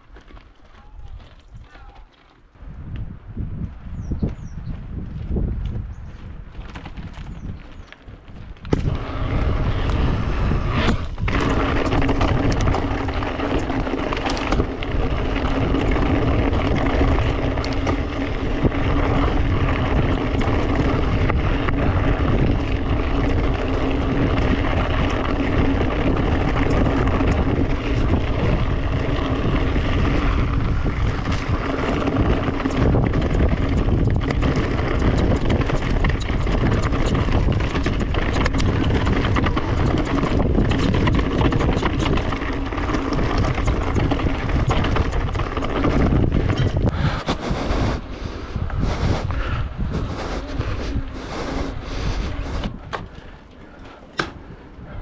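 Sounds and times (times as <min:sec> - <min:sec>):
wind over microphone: 0:00.0 - 0:55.0.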